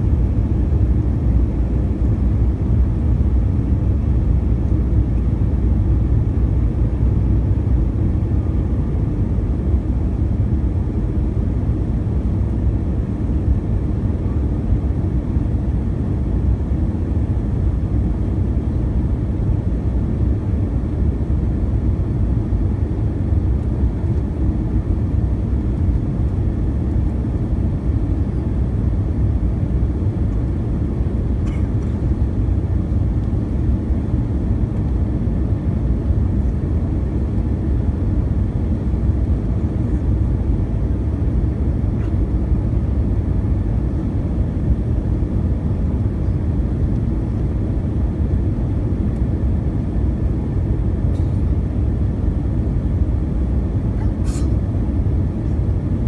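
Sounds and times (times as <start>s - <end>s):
jet engine rumble in cabin: 0.0s - 56.0s.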